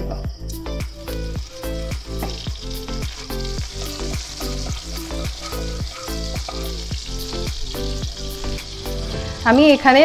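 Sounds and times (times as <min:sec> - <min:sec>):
background music with steady beat: 0:00.0 - 0:10.0
butter sizzling in a pan: 0:00.5 - 0:10.0.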